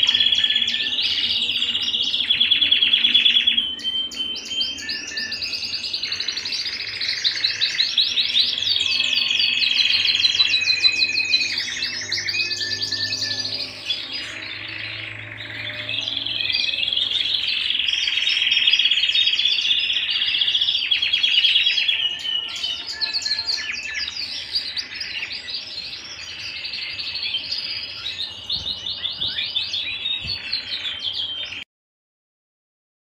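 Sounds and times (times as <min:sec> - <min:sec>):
canary singing: 0:00.0 - 0:31.6.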